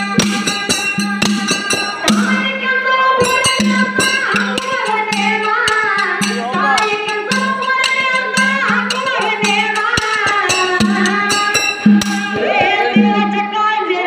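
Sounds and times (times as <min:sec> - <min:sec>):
drums: 0:00.0 - 0:14.0
jingling percussion: 0:00.0 - 0:14.0
woman singing through microphone: 0:01.2 - 0:14.0.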